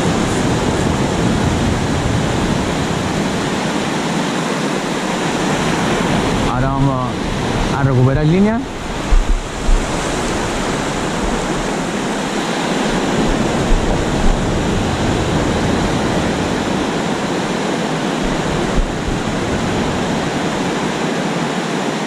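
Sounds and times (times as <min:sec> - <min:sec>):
surf washing up a beach: 0:00.0 - 0:22.0
wind gusts on microphone: 0:00.0 - 0:22.0.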